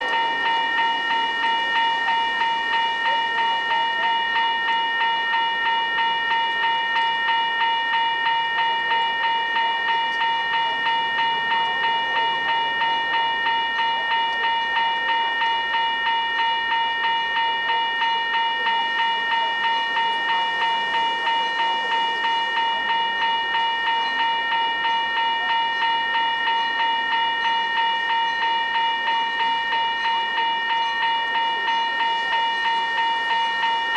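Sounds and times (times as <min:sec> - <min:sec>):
railroad crossing bell ringing: 0:00.0 - 0:33.9.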